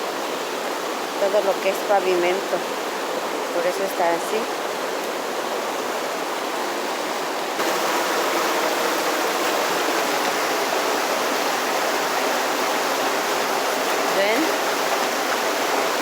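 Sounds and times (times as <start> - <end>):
fast-flowing river rushing: 0.0 - 16.0.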